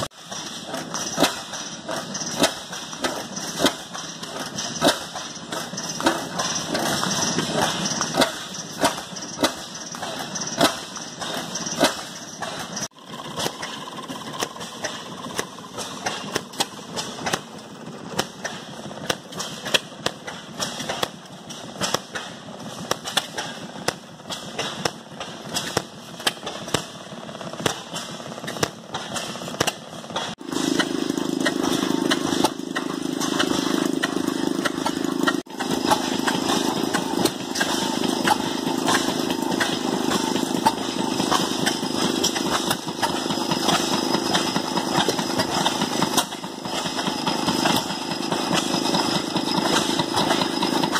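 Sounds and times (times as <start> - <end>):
engine hum: 0.0 - 50.9
gas engine exhaust pops: 0.0 - 50.9.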